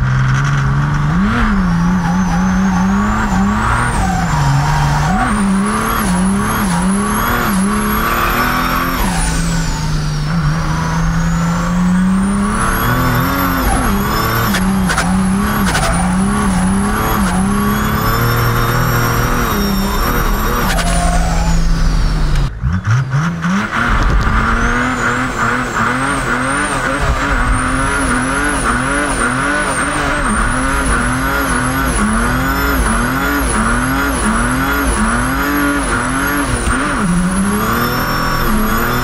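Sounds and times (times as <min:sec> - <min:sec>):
diesel engine accelerating hard: 0:00.0 - 0:39.0.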